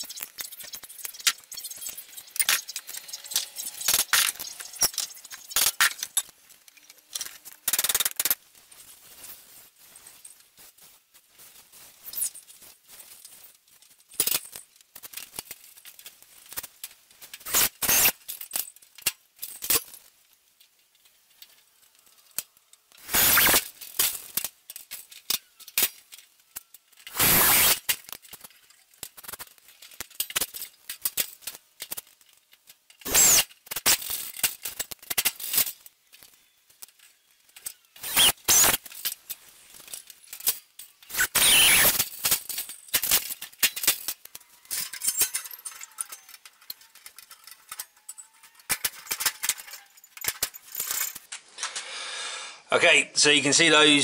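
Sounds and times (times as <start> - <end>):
metal parts clinking: 0.0 - 51.8.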